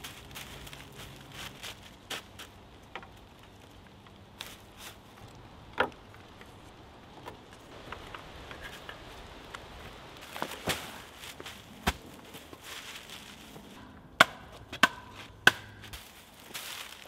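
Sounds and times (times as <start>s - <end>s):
reed thatch rustling and crackling: 0.0s - 17.0s.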